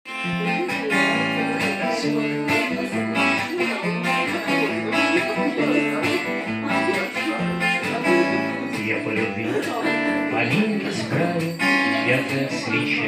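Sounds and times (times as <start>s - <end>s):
acoustic guitar playing: 0.1s - 13.0s.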